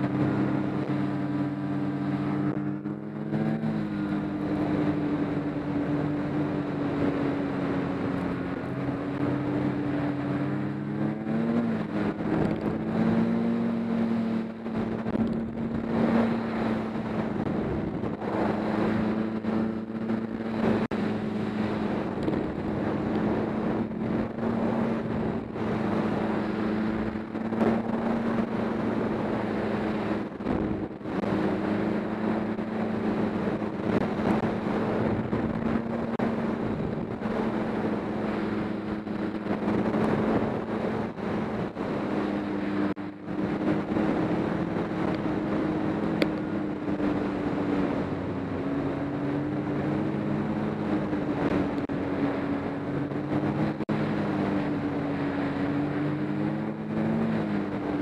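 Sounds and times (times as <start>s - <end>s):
snowmobile engine running: 0.0s - 58.0s
wind rushing over microphone: 0.0s - 58.0s.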